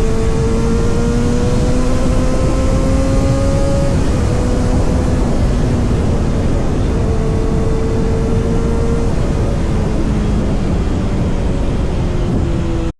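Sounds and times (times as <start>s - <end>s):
loud rushing rumbling noise: 0.0s - 12.9s
motorcycle engine running: 0.0s - 12.9s.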